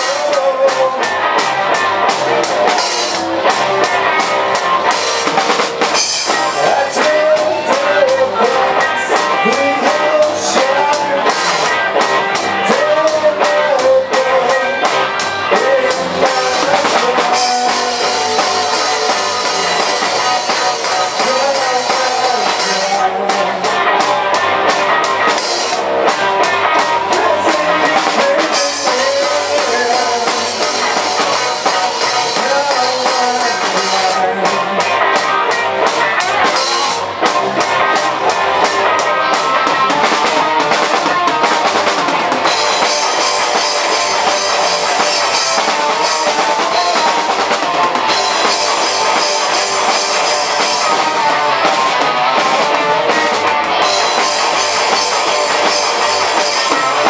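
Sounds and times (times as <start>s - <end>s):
drum kit with cymbal strokes: 0.0s - 57.0s
electric guitars: 0.0s - 57.0s.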